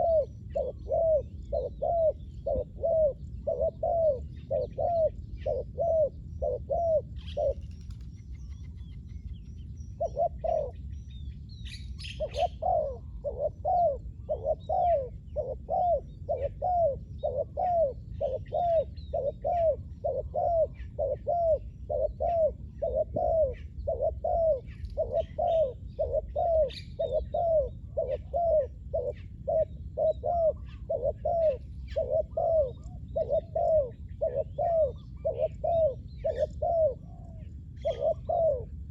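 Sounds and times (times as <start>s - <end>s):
dove cooing: 0.0s - 9.3s, 9.9s - 10.9s, 12.0s - 38.9s
small birds chirping: 0.0s - 38.9s.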